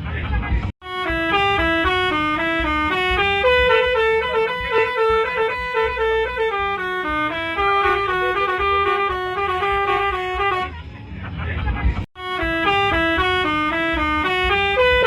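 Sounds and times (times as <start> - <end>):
bus musical horn tune: 0.8 - 10.8, 12.2 - 15.0.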